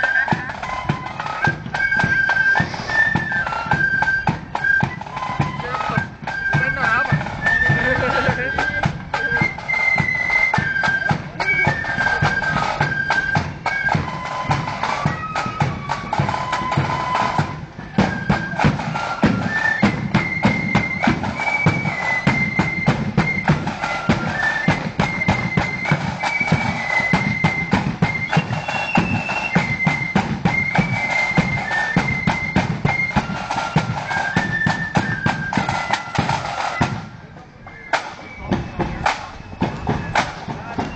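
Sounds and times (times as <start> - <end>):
marching band melody: 0.0 - 40.9
steady drumming: 0.0 - 40.9.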